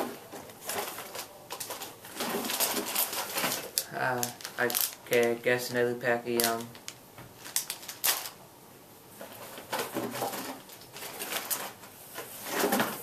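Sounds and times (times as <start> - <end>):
plastic packages rustling: 0.0 - 8.4, 9.2 - 13.0.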